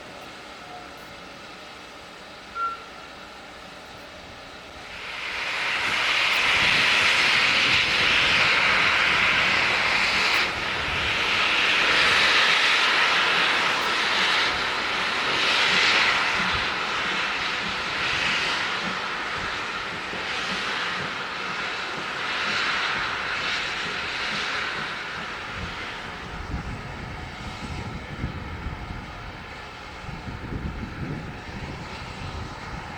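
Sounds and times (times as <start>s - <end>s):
steam locomotive exhaust hissing: 0.0s - 32.9s.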